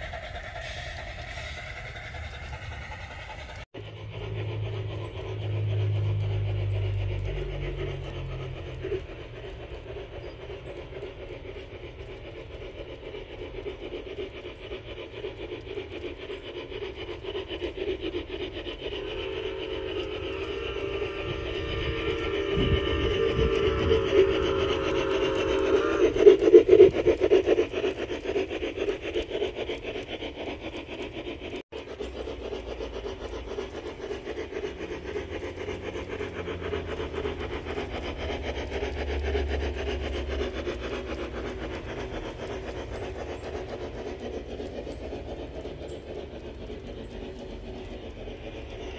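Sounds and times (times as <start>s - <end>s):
model train motor whine: 0.0s - 48.9s
train wheels clicking and rattling: 0.0s - 48.9s.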